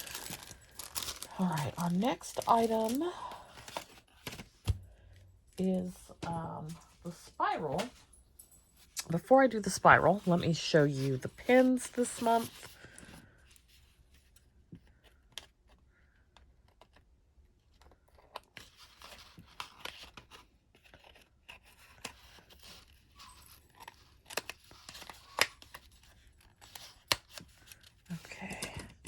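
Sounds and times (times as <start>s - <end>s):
packaging rustling and scraping: 0.0s - 8.1s, 8.8s - 15.1s, 17.8s - 29.0s.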